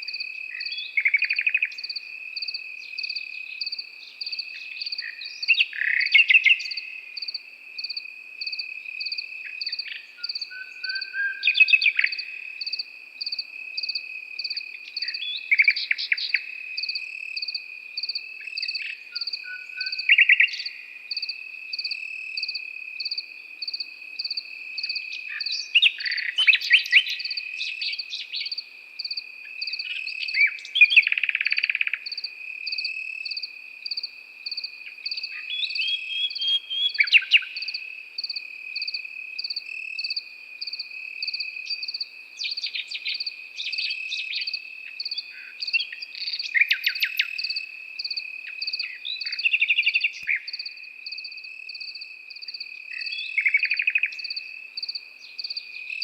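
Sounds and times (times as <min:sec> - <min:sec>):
cricket chirping in pulses: 0:00.0 - 0:56.0
cricket trilling steadily: 0:00.0 - 0:56.0
nightingale singing: 0:00.0 - 0:56.0.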